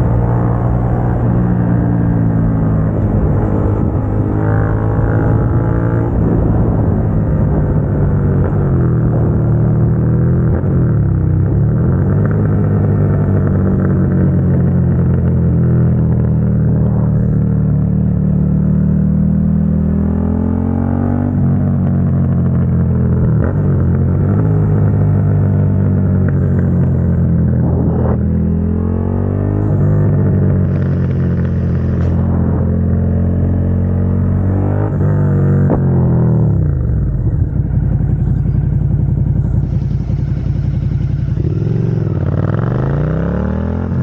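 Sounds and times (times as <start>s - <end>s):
motorcycle engine riding: 0.0s - 44.0s.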